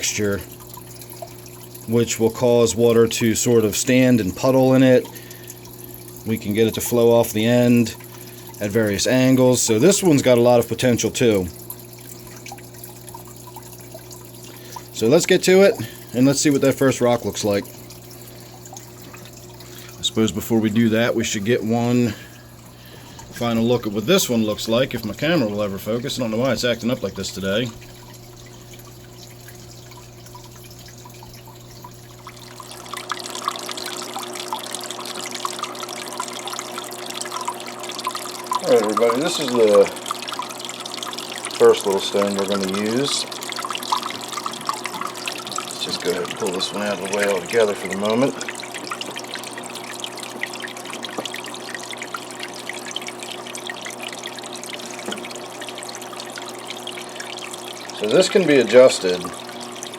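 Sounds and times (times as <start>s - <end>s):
aquarium waterfall splashing: 0.0s - 59.9s
steady low hum: 0.0s - 59.9s.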